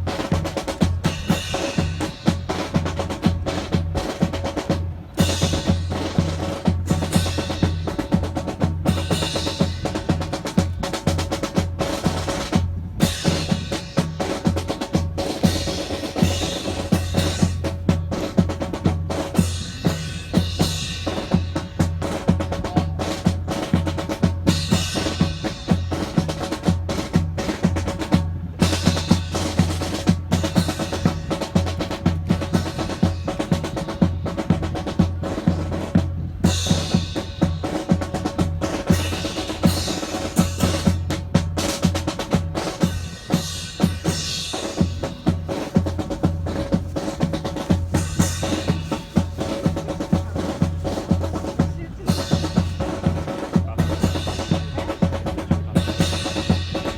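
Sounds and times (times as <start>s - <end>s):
bass drum beat: 0.0s - 56.9s
snare drum rolls and rimshots: 0.0s - 56.9s.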